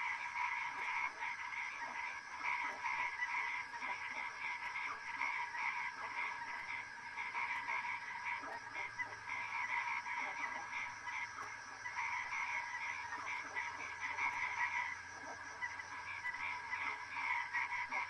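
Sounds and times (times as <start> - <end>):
frogs chorus: 0.0 - 18.0.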